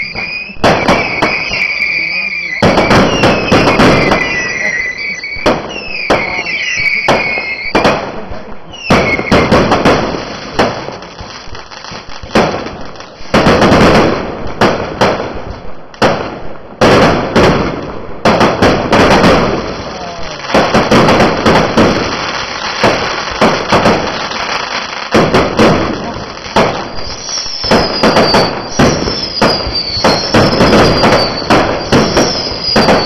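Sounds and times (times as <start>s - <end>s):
fireworks bangs: 0.0s - 33.0s
fireworks crackling: 0.0s - 33.0s.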